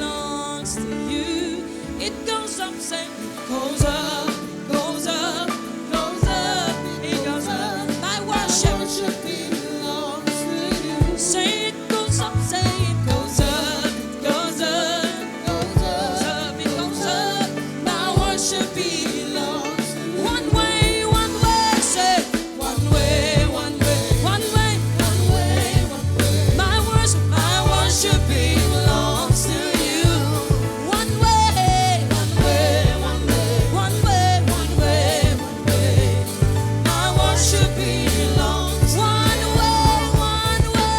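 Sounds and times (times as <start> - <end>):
gospel band with singing: 0.0 - 40.9.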